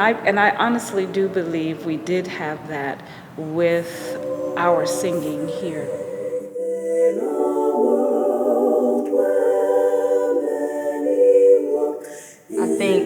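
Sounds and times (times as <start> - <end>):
women singing a cappella chords: 0.0 - 13.0.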